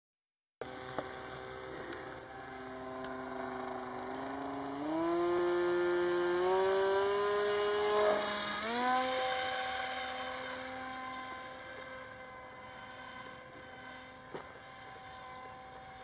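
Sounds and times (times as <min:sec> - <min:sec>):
model plane motor whining: 0:00.6 - 0:16.0.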